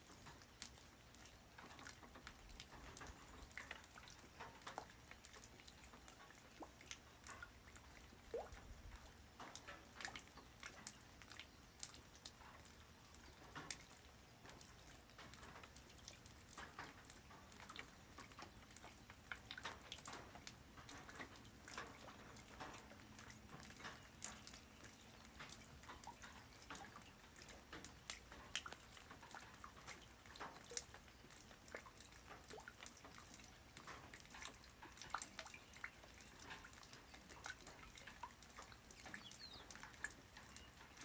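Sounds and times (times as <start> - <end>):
light rain falling: 0.0 - 41.0.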